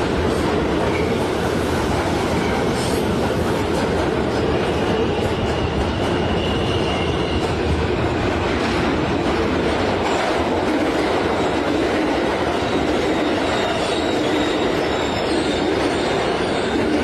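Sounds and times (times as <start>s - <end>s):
subway train rumble and rail noise: 0.0s - 17.0s.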